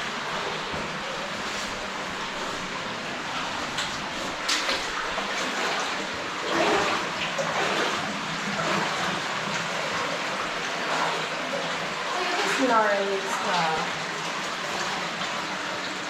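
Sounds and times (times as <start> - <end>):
running water in a cave: 0.0 - 16.0.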